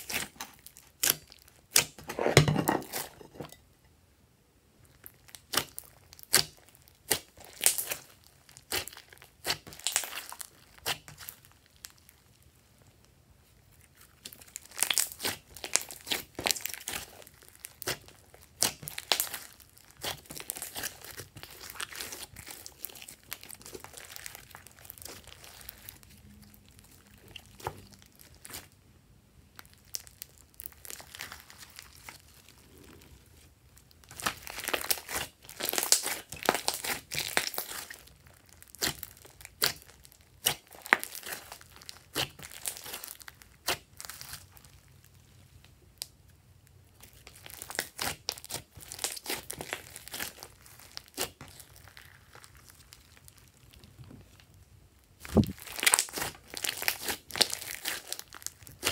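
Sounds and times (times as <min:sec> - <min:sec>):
slime clicking and crackling: 0:00.0 - 0:02.0, 0:04.9 - 0:12.2, 0:13.9 - 0:28.8, 0:29.5 - 0:33.1, 0:33.8 - 0:46.1, 0:46.9 - 0:58.9.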